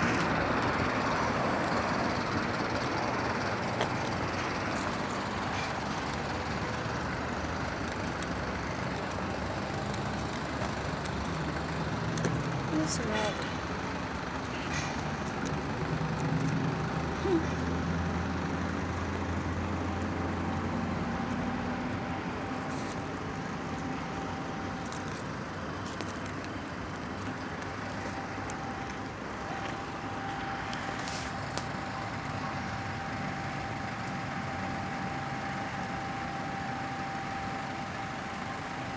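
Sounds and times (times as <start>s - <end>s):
street traffic: 0.0s - 38.9s
vehicle engine running nearby: 0.0s - 38.9s.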